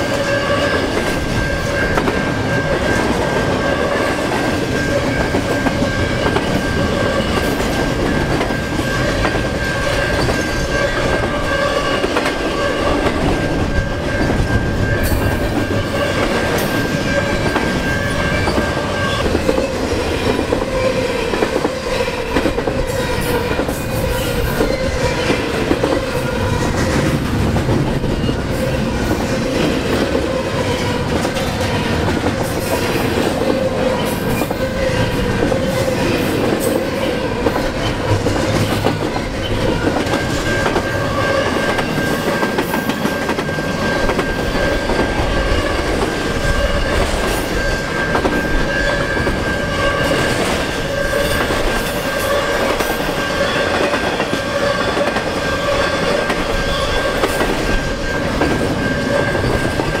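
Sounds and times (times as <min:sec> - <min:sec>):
freight train rolling on rails: 0:00.0 - 1:00.0.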